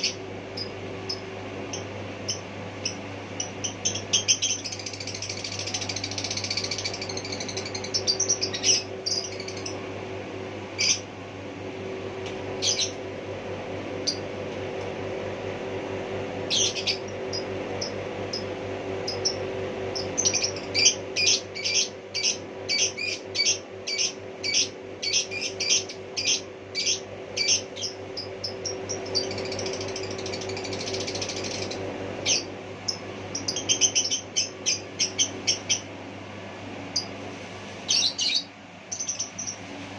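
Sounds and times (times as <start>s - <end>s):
small bird chirping: 0.0s - 9.9s, 10.7s - 11.1s, 12.6s - 13.0s, 14.0s - 14.3s, 16.5s - 35.9s, 37.9s - 39.7s
steady low hum: 0.0s - 39.9s.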